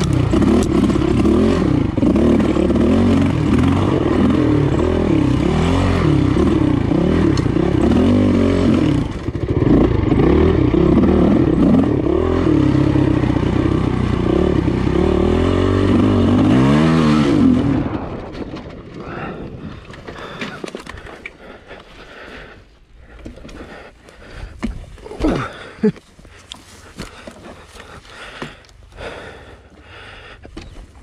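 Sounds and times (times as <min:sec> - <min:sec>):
dirt bike engine revving: 0:00.0 - 0:30.2.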